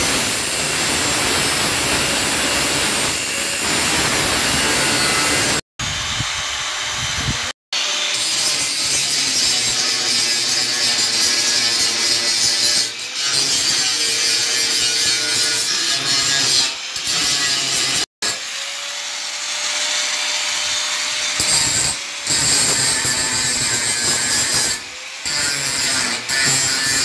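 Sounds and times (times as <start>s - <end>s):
angle grinder grinding metal: 0.0s - 27.0s.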